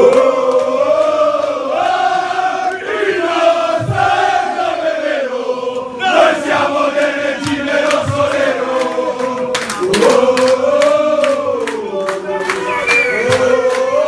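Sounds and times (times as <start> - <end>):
crowd of men chanting: 0.0 - 14.0.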